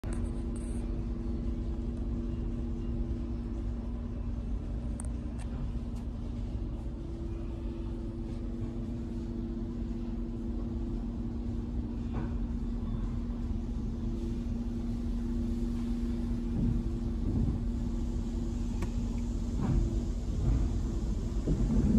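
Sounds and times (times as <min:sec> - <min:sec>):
car wash machinery rumbling: 0:00.0 - 0:21.9.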